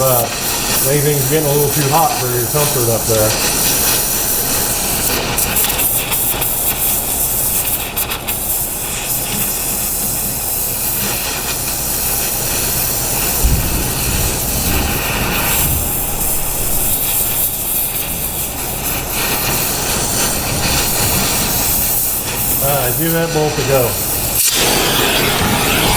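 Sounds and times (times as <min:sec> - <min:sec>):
torch flame hissing: 0:00.0 - 0:25.9.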